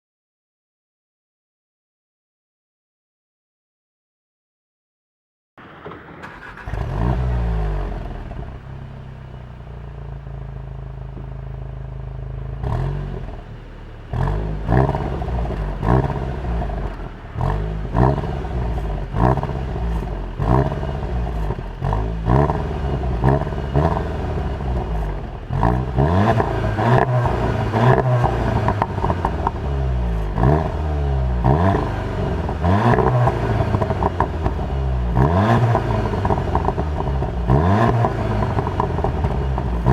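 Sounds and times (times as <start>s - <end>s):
car engine idling and revving: 5.6s - 39.9s.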